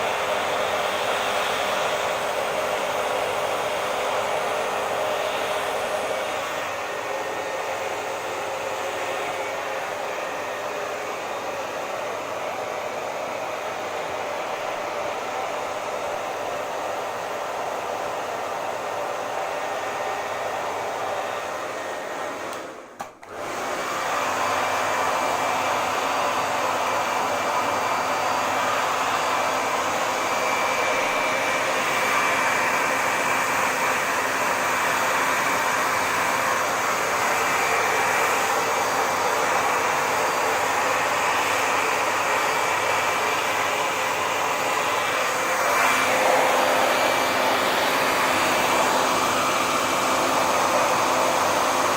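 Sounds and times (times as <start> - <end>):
hair dryer blowing: 0.0 - 51.9.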